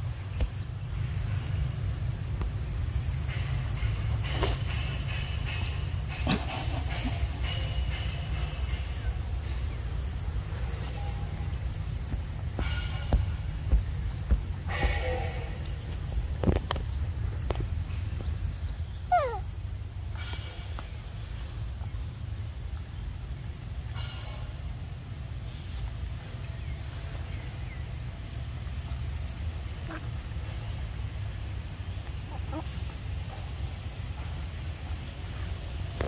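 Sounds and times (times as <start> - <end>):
low outdoor rumble: 0.0 - 36.0.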